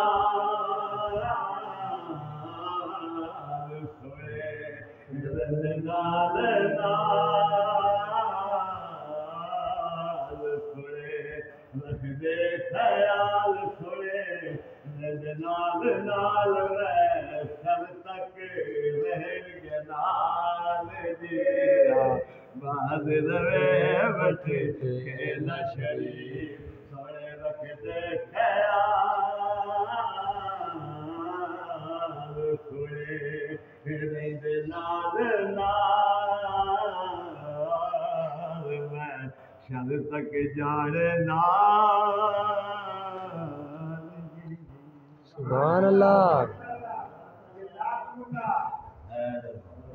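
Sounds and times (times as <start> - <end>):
man chanting: 0.0 - 49.9
man singing unaccompanied: 0.0 - 49.9.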